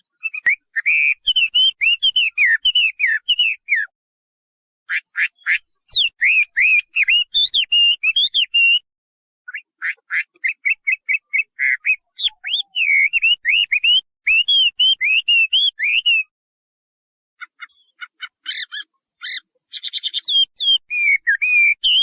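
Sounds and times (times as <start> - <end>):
bird singing whistled notes: 0.0 - 3.9, 4.9 - 8.9, 9.5 - 16.3, 17.4 - 22.0.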